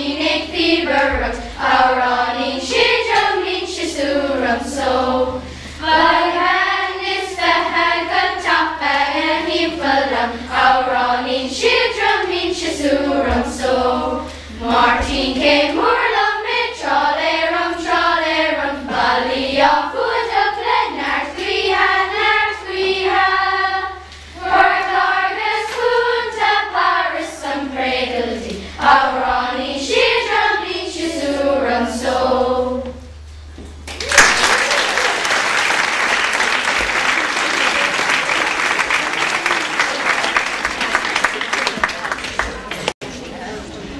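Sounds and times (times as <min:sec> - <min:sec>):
children's choir singing: 0:00.0 - 0:33.1, 0:35.0 - 0:43.0.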